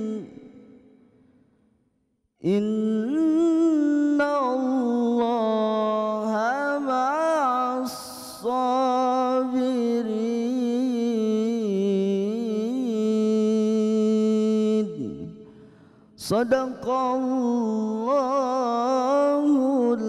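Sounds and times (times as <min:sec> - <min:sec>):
young man chanting melodically: 0:00.0 - 0:01.0, 0:02.4 - 0:15.5, 0:16.2 - 0:20.0.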